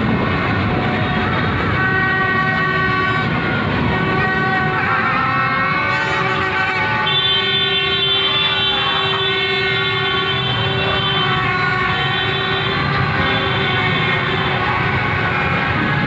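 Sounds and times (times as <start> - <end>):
horns blasting: 0.0 - 16.0
street noise: 0.0 - 16.0.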